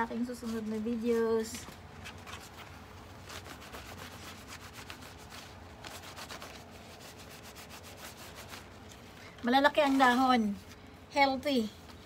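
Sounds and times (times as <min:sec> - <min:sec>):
cloth rubbing over leaves: 0:00.0 - 0:11.6.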